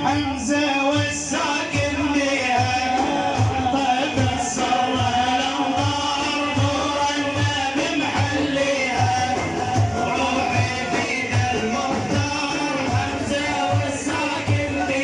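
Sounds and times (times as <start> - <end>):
low drum beat: 0.0 - 15.0.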